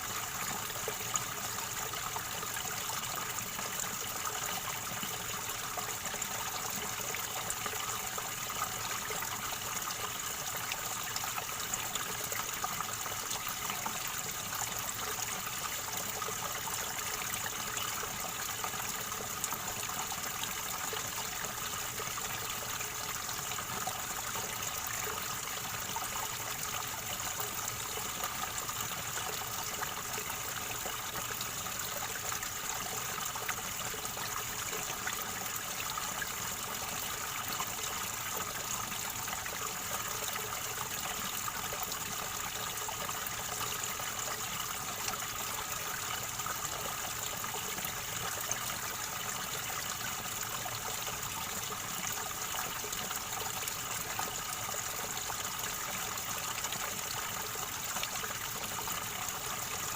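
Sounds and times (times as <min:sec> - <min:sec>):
river water gurgling: 0:00.0 - 0:59.9.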